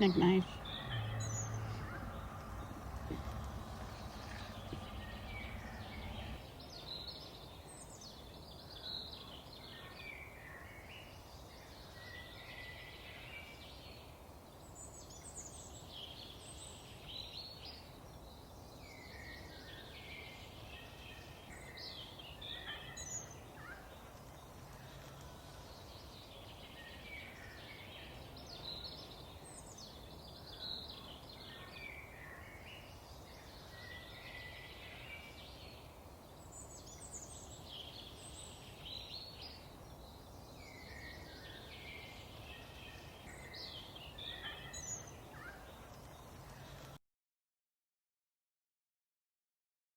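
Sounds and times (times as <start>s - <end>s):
low background noise: 0.0s - 47.0s
songbird chirping: 0.0s - 47.0s.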